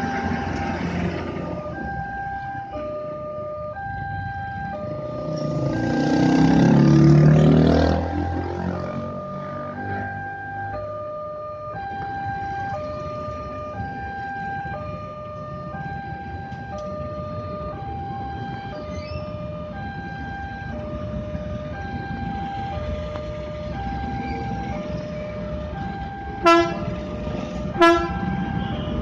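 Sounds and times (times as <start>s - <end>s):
motorbike and car traffic: 0.0s - 29.0s
two-tone crossing alarm: 0.0s - 29.0s.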